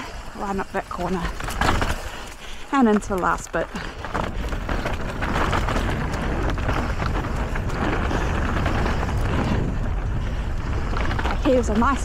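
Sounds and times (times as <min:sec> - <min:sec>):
bike clicks and rattles: 0:00.0 - 0:12.0
tyre and wind rush: 0:00.0 - 0:12.0.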